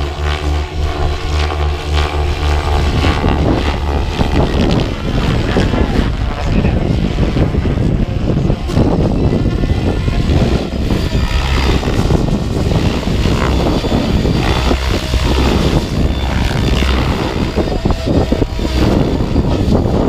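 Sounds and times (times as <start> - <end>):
rc helicopter flying: 0.0 - 20.0
wind buffeting microphone: 0.0 - 20.0.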